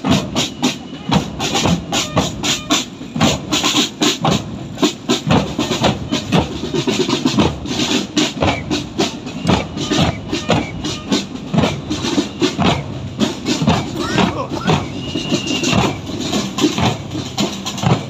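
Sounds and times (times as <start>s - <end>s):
marching drum band: 0.0s - 18.0s.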